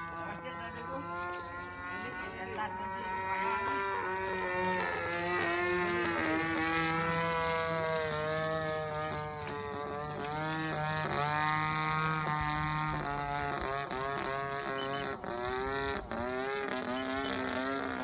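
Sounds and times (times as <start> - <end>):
model plane engine in flight: 0.0 - 18.0.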